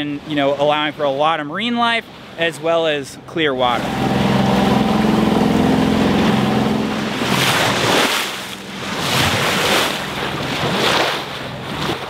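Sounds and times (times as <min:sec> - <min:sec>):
water rushing along hull: 0:00.0 - 0:12.0
boat engine droning: 0:01.6 - 0:12.0.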